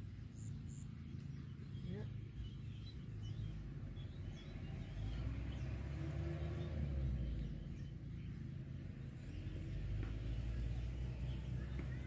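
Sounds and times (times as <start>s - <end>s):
faint bird chirps: 0.0s - 12.0s
vehicle engine passing: 0.0s - 12.0s.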